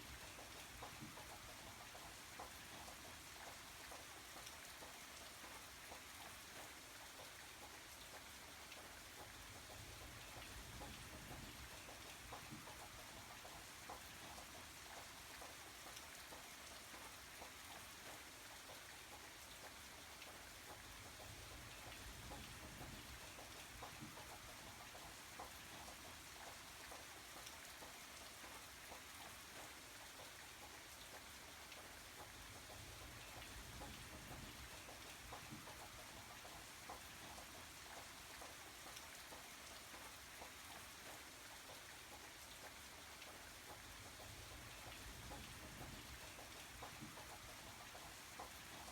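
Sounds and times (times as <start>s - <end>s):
faint steady rainfall: 0.0s - 48.9s.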